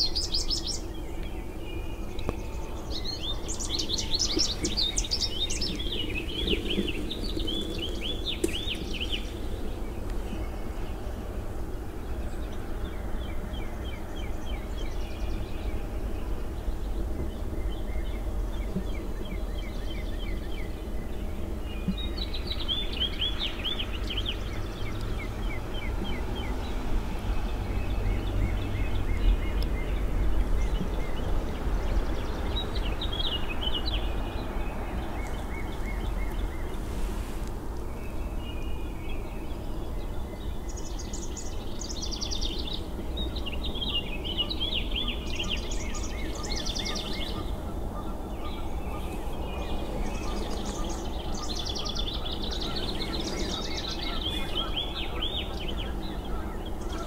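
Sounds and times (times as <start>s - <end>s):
steady low rumble: 0.0s - 56.9s
songbirds chirping: 0.0s - 57.0s.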